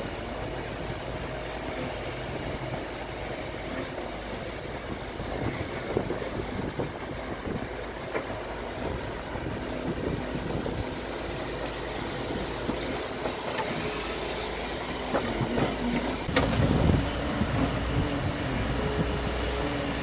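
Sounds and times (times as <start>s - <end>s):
diesel engine under load: 0.0s - 20.0s
hydraulic working noise: 0.0s - 20.0s.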